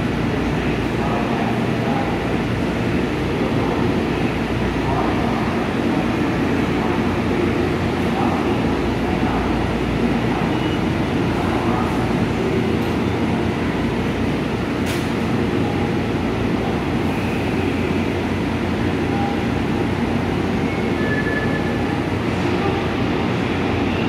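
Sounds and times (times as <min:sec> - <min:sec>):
electric trains droning: 0:00.0 - 0:24.0.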